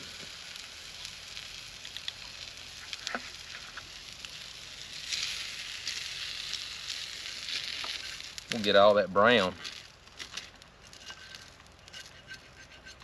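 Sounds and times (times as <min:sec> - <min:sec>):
fish sizzling in a skillet: 0:00.0 - 0:13.0.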